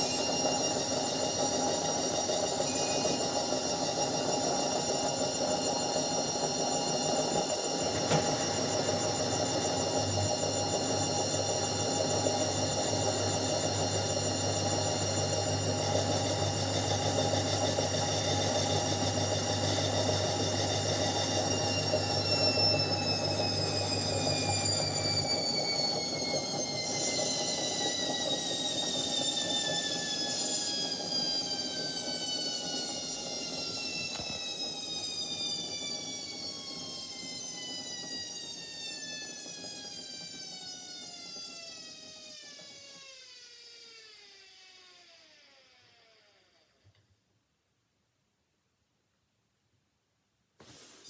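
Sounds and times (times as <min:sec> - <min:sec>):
washing machine motor hum: 0:00.0 - 0:46.0
washing machine drum whine: 0:00.0 - 0:46.2.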